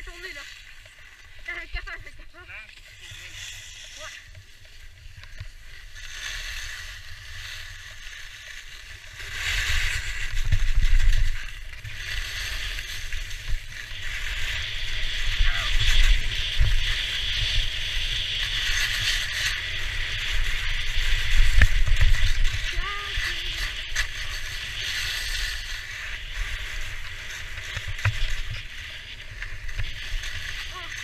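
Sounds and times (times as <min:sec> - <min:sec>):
skis scraping over snow: 0:00.0 - 0:31.0.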